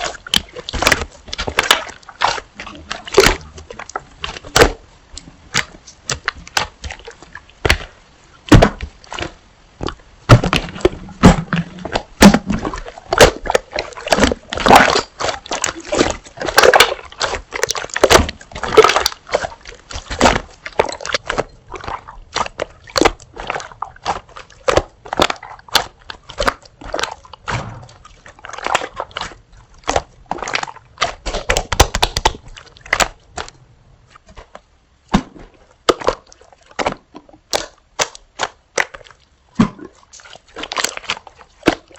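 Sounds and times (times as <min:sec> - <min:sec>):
slime squelching and clicking: 0:00.0 - 0:41.9.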